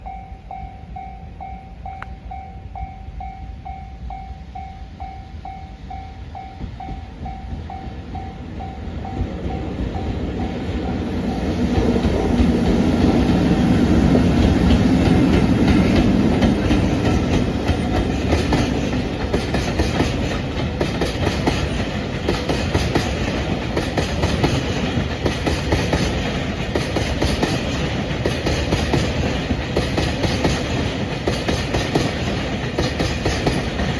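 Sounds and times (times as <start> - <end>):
train passing: 0.0 - 33.9.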